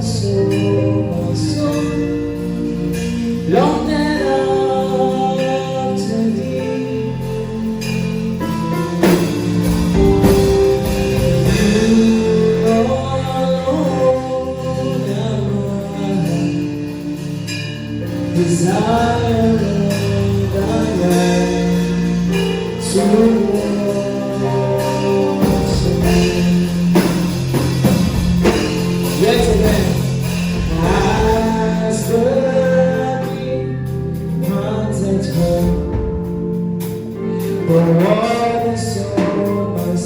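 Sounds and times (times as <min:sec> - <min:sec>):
sustained instrumental accompaniment: 0:00.0 - 0:40.0.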